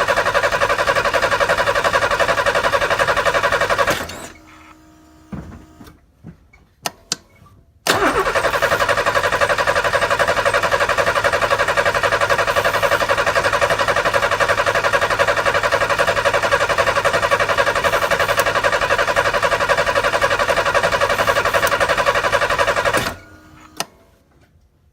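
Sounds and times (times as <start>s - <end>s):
engine cranking by starter: 0.0s - 4.5s, 7.9s - 23.9s.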